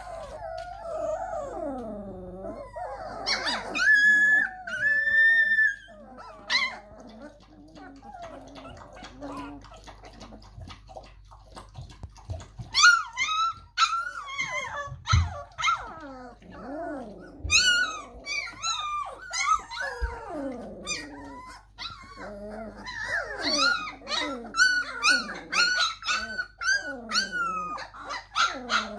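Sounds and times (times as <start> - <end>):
puppies whimpering and whining: 0.0 - 28.9.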